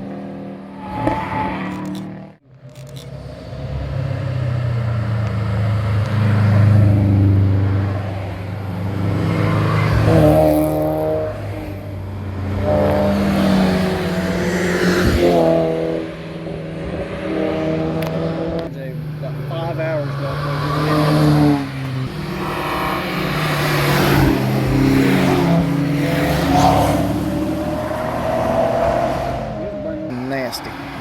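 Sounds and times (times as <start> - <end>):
cars passing with engines revving: 0.0 - 31.0.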